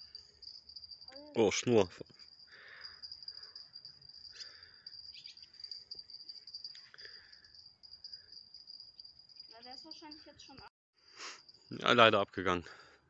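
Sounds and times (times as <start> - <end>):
insects chirring: 0.0 - 12.2.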